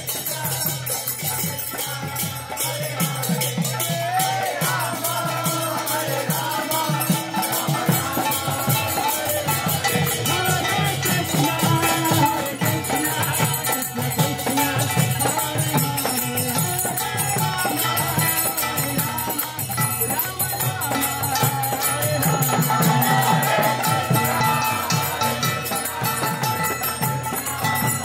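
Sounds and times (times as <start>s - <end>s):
hand cymbals jingling: 0.0s - 28.0s
group chanting: 1.5s - 19.4s, 20.8s - 28.0s.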